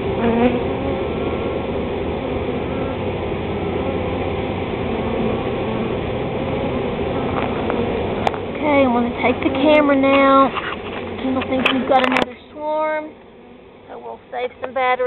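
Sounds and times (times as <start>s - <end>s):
bee swarm buzzing: 0.0s - 14.5s.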